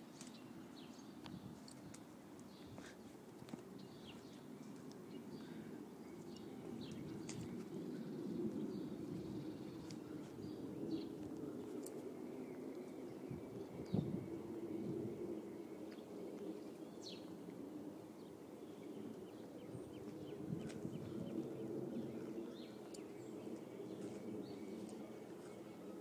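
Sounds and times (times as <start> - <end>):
birds chirping faintly: 0.0 - 26.0.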